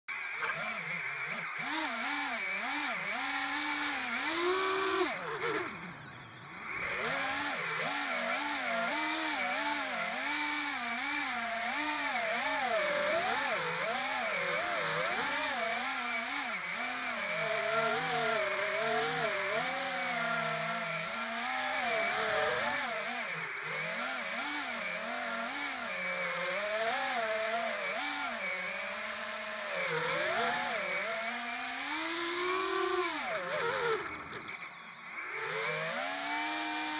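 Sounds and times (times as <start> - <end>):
drone motors buzzing: 0.1 - 36.9.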